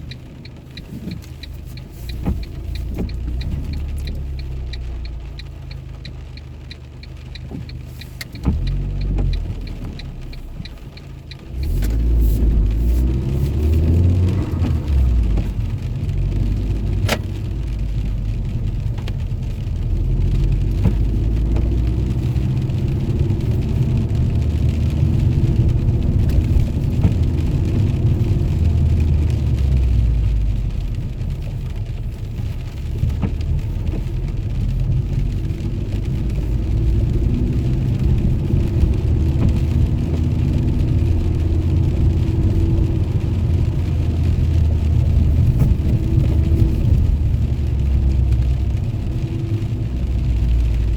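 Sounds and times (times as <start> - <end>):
car engine rumbling: 0.0 - 50.9.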